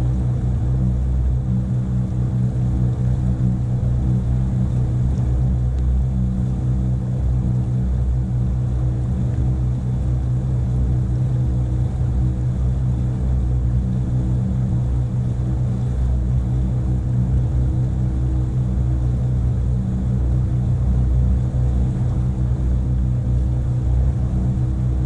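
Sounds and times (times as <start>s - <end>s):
motorboat engine droning: 0.0s - 25.0s.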